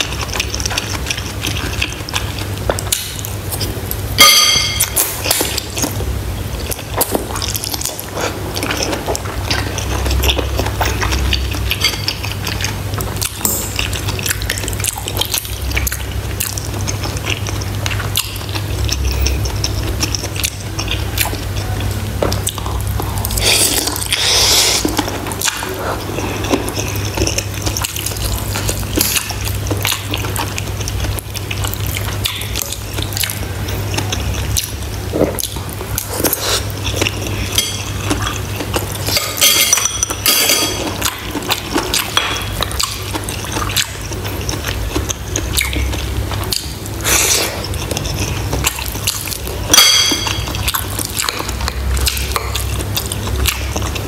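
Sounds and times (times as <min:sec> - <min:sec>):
wet chewing and mouth sounds: 0:00.0 - 0:54.0.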